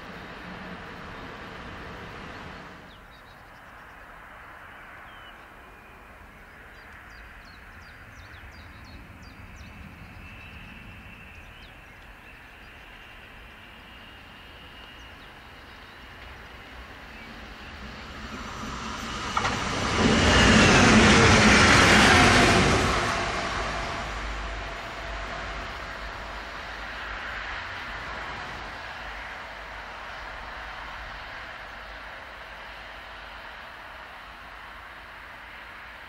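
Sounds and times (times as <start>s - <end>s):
electric train passing at speed: 0.0s - 36.0s
low outdoor background: 0.0s - 36.0s.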